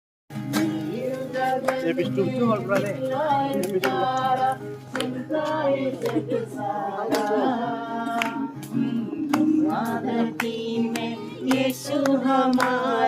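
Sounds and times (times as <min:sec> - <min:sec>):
group singing in unison: 0:00.5 - 0:13.0
sharp rhythmic beats: 0:00.5 - 0:13.0.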